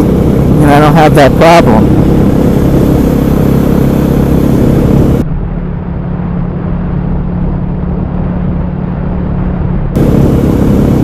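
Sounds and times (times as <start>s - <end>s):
motorcycle engine running: 0.0s - 11.0s
wind rush: 0.0s - 11.0s.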